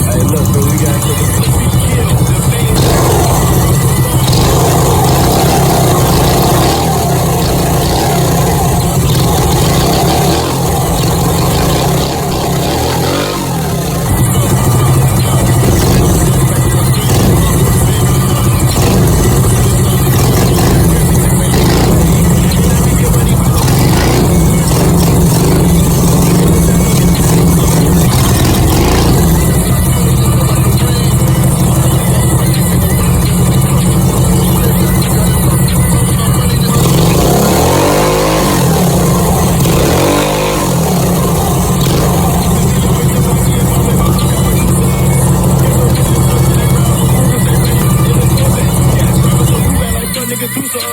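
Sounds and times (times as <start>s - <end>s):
minibike engine running: 0.0s - 50.9s.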